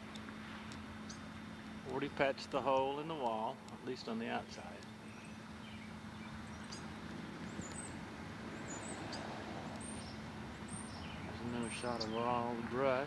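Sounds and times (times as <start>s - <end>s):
faint steady hum: 0.0s - 13.0s
outdoor background noise: 0.0s - 13.0s
small birds chirping: 0.1s - 13.0s.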